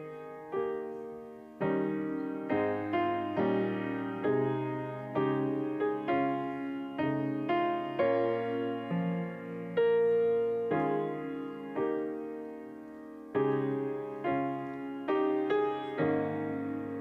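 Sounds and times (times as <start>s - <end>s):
grand piano playing gentle chords: 0.0s - 17.0s.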